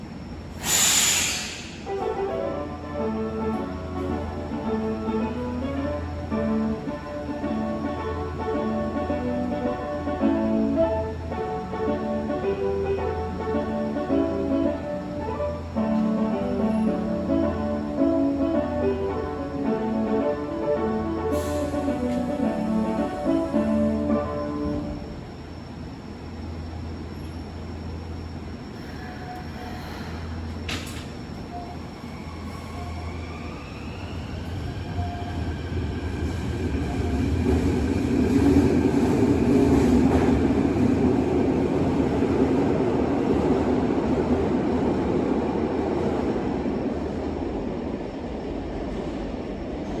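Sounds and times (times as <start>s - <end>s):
train traction motor whine: 0.0s - 42.0s
wheels rumbling on rail: 0.0s - 50.0s.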